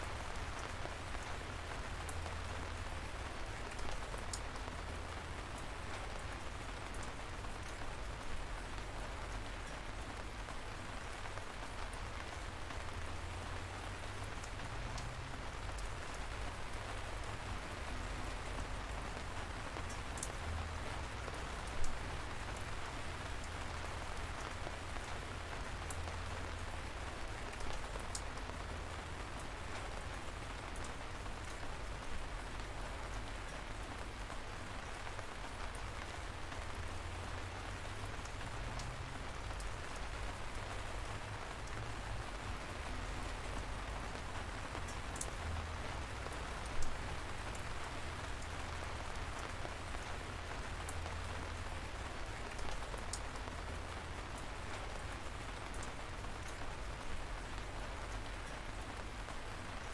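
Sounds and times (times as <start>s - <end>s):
light rain drizzle: 0.0s - 59.9s
raindrops pattering: 0.0s - 59.9s.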